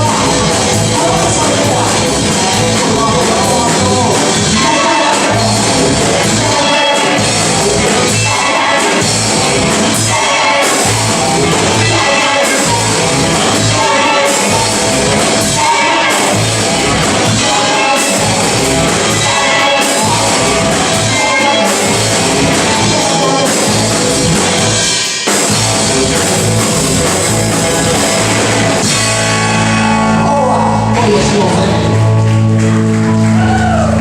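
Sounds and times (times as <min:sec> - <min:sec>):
person singing: 0:00.0 - 0:25.3, 0:26.8 - 0:34.0
live rock band playing: 0:00.0 - 0:34.0.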